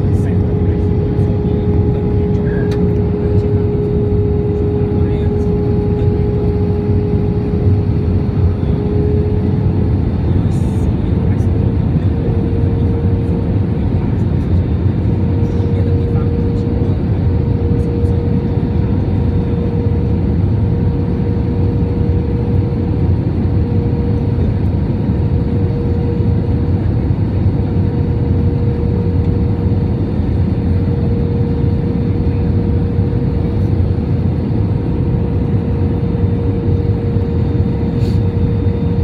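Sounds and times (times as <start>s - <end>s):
jet engine and airflow rumble: 0.0s - 39.0s
steady cabin hum: 0.0s - 39.0s.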